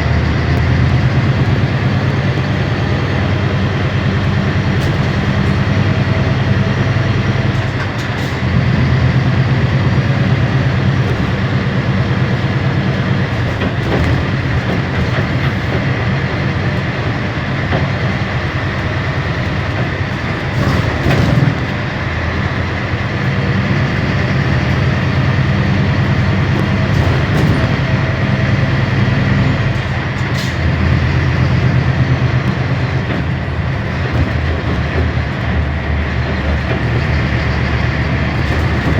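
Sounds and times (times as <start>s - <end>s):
bus engine and road drone: 0.0s - 38.9s.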